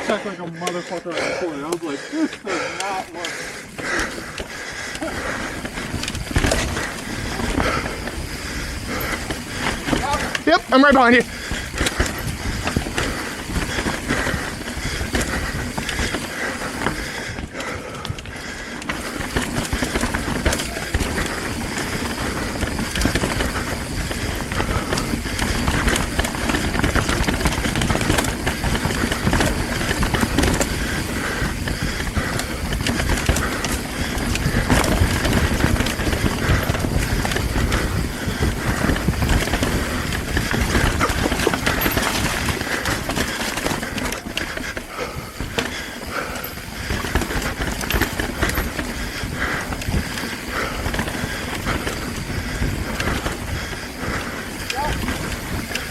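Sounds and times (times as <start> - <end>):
bike rattling over bumps: 0.0 - 55.9
bike tyres rolling over dirt: 0.0 - 55.9.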